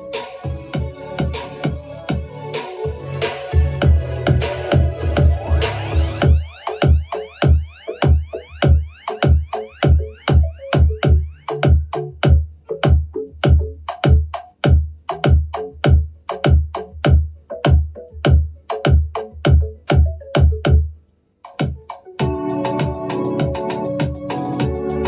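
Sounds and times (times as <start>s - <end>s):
organ-like keyboard chords: 0.0s - 14.0s, 16.2s - 25.0s
electronic dance music: 0.0s - 20.8s, 21.4s - 25.0s.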